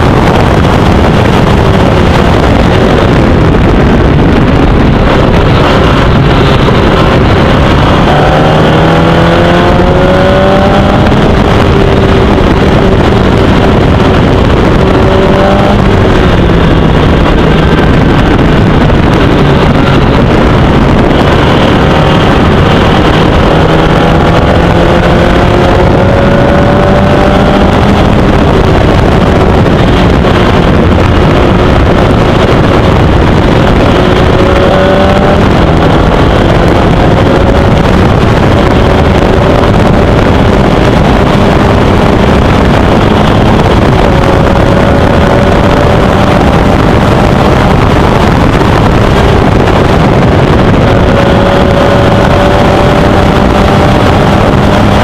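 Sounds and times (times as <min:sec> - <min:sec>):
loud rushing noise: 0:00.0 - 0:55.0
racing car engine accelerating: 0:00.1 - 0:55.0.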